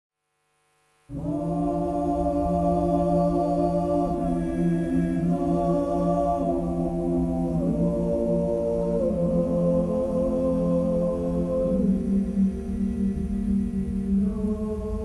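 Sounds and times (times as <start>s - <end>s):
low hum: 0.9s - 15.0s
choir singing sustained chords: 1.0s - 15.0s.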